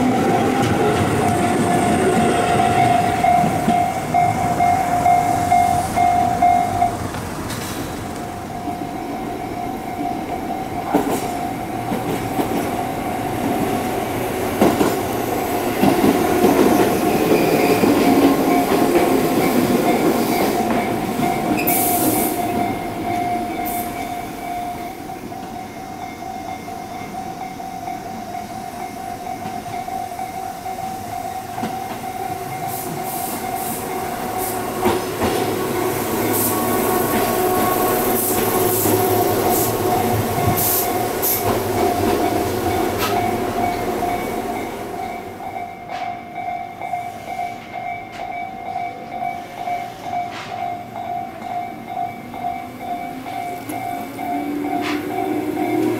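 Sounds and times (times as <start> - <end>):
level-crossing bell ringing: 0.0 - 7.1, 8.2 - 13.7, 16.4 - 35.0, 35.7 - 55.9
train wheels on rails: 0.0 - 55.9.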